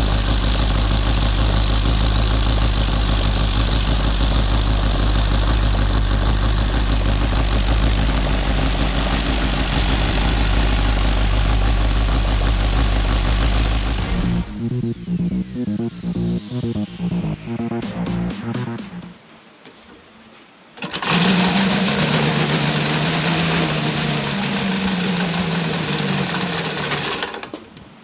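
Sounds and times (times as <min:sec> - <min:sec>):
model engine running: 0:00.0 - 0:17.6, 0:20.8 - 0:27.4.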